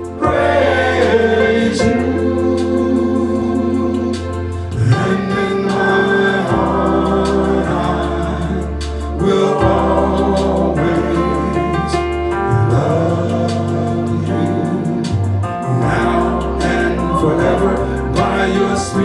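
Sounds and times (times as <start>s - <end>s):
gospel choir singing: 0.0s - 19.0s
organ playing: 0.0s - 19.0s.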